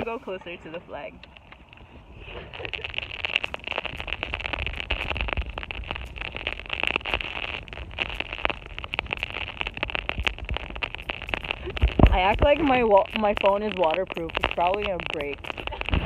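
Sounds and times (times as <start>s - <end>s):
heavy rain hissing: 0.0s - 16.0s
raindrops tapping on microphone: 0.0s - 16.0s.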